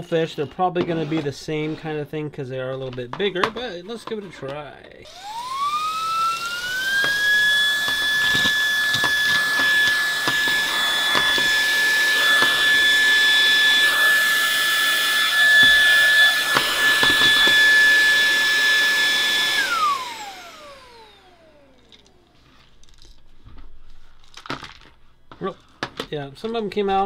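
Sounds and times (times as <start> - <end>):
handheld vacuum whining: 0.0 - 2.0, 2.7 - 22.8.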